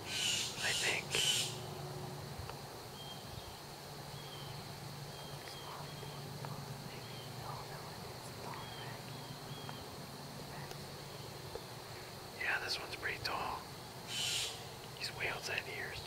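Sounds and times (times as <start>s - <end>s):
faint steady high whine: 0.0s - 16.0s.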